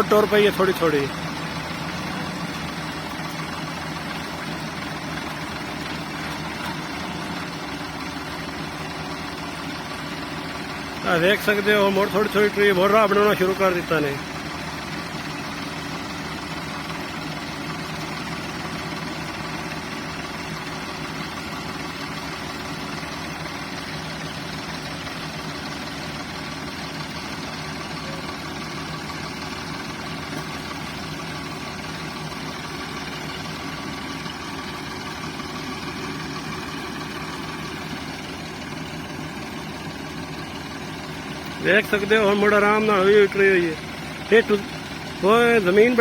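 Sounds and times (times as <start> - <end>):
tractor engines straining: 0.0 - 46.0.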